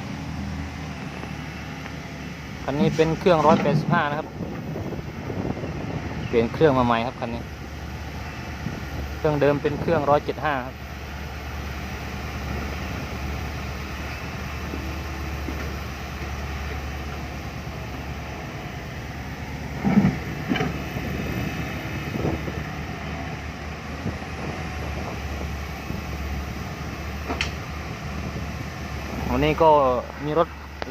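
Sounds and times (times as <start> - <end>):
truck diesel engine droning: 0.0 - 30.9.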